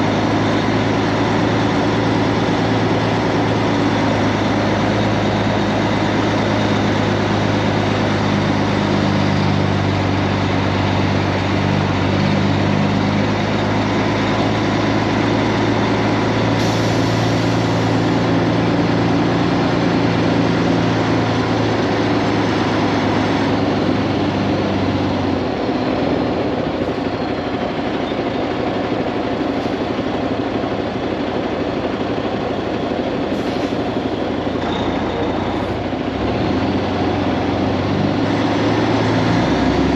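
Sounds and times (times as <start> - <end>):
diesel truck engine drone: 0.0 - 39.9
road noise: 0.0 - 39.9.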